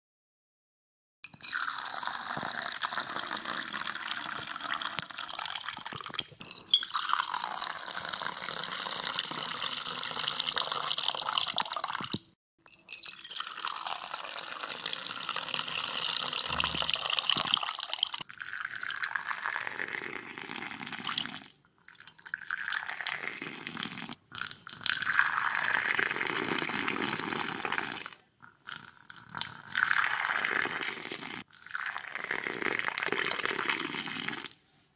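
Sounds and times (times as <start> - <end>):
liquid pouring into vessel: 1.3 - 34.6.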